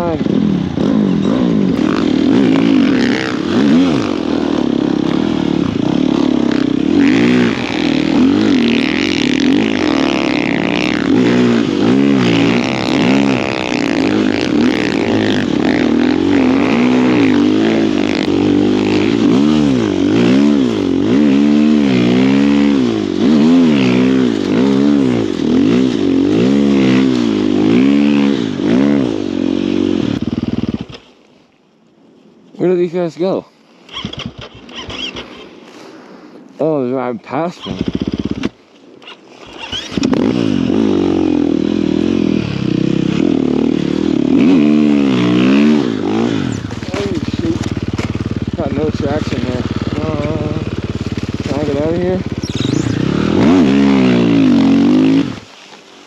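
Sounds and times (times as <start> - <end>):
snow bike engine revving: 0.0 - 31.1, 33.9 - 36.0, 36.6 - 55.6.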